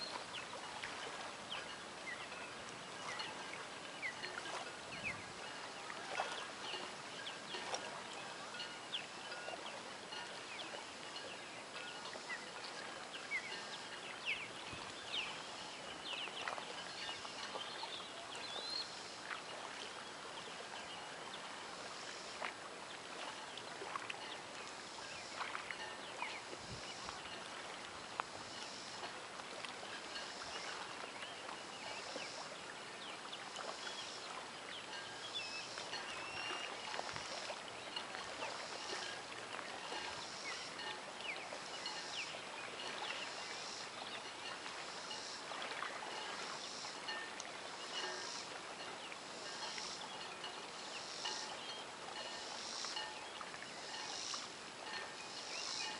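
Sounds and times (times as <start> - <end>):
small ticks and splashes: 0.0 - 55.9
small waves lapping: 0.0 - 55.9.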